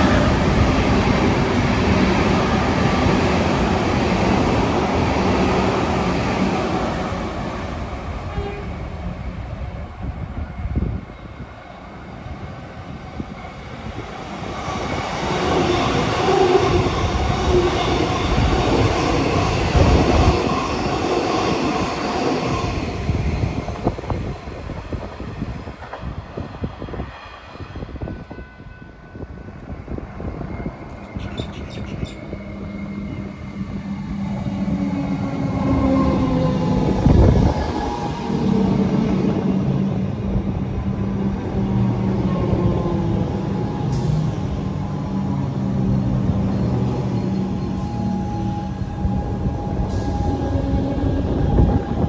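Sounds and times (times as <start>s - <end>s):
electric train humming: 0.0s - 52.0s
electric train passing: 0.0s - 52.0s.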